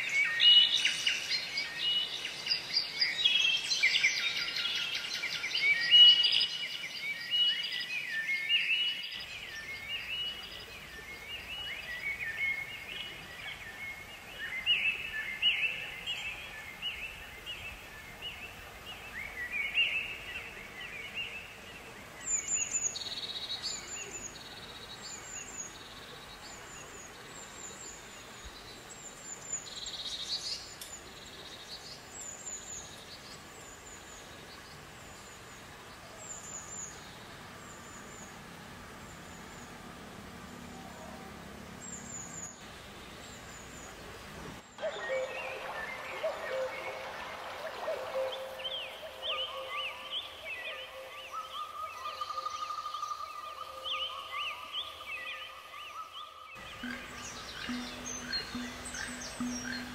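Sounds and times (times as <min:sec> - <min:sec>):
faint background hiss: 0:00.0 - 0:59.9
songbirds chirping: 0:00.0 - 0:59.9.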